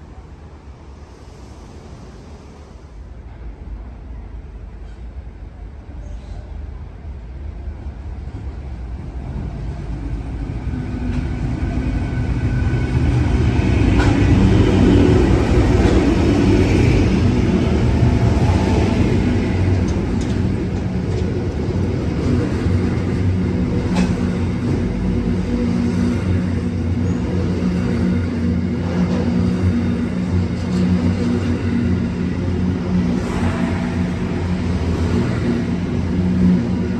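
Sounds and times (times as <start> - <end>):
train rumbling past: 0.0 - 36.9.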